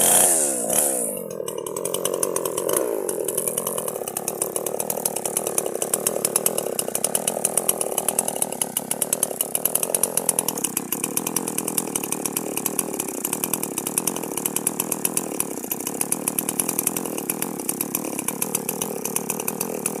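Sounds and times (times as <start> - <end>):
chainsaw running: 0.0 - 20.0.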